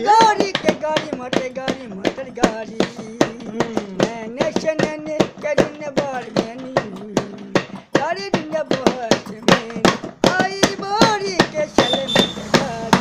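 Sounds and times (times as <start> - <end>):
sharp rhythmic taps: 0.0 - 13.0.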